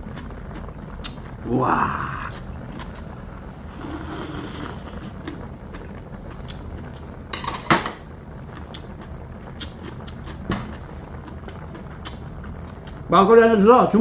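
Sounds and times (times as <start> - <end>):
low steady background hum: 0.0 - 14.0.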